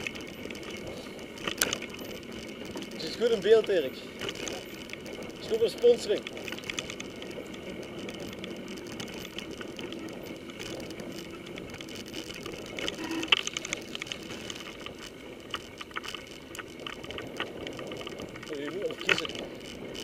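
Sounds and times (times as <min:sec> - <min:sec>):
bike rattles and clicks: 0:00.0 - 0:20.0
bike tyres rolling on dirt: 0:00.0 - 0:20.0.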